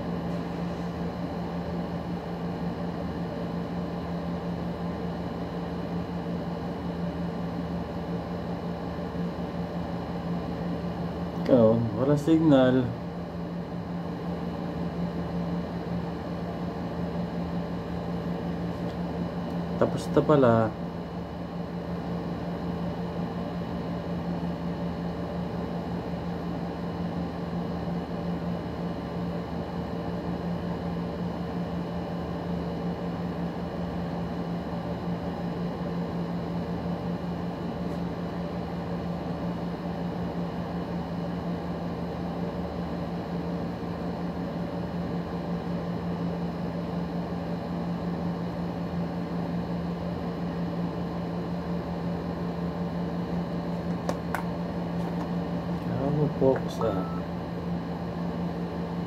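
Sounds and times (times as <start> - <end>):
small machine humming: 0.0 - 59.0.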